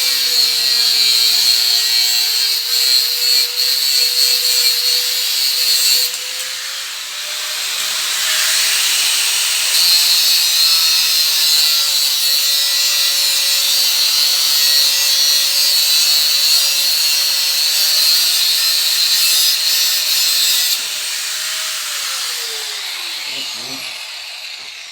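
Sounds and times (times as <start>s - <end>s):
small motor tool whining: 0.0s - 24.9s.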